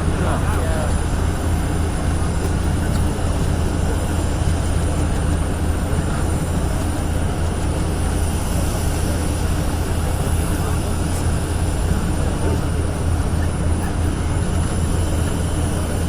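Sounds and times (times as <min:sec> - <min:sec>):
engine drone with hiss: 0:00.0 - 0:16.0.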